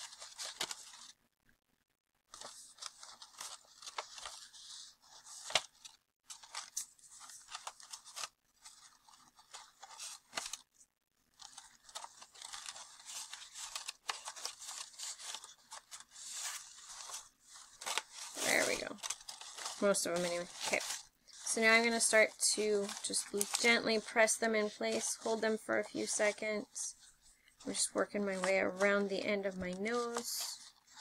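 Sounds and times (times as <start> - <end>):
paper rustling and crinkling: 0.0 - 1.2, 2.3 - 31.0.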